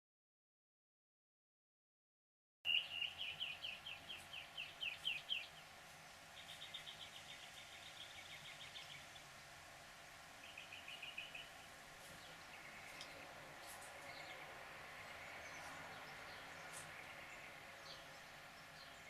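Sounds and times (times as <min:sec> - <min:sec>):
songbird chirping: 0:02.7 - 0:19.0.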